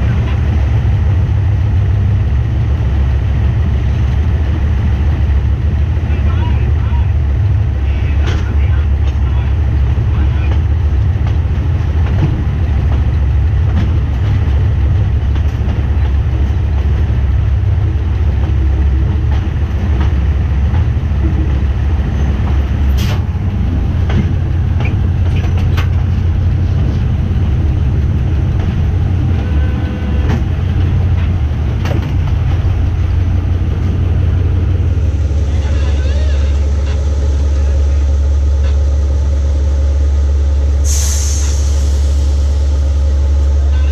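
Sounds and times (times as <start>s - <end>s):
diesel locomotive rumbling: 0.0s - 43.9s.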